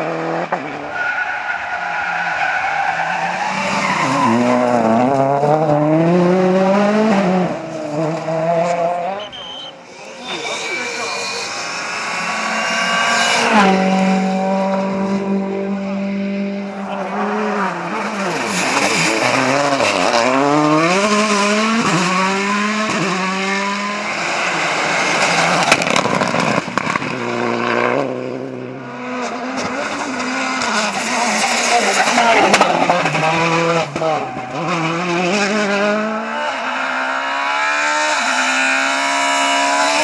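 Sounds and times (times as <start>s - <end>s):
rally car engine at full throttle: 0.0s - 40.0s.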